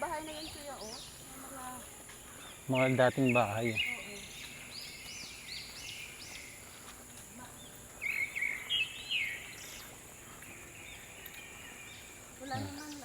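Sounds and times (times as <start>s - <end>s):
wild birds chirping: 0.0s - 13.0s.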